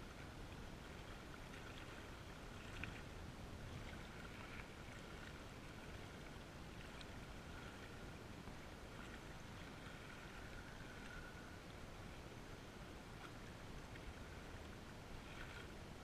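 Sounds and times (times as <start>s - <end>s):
small waves lapping on rocks: 0.1s - 12.2s, 12.8s - 16.0s.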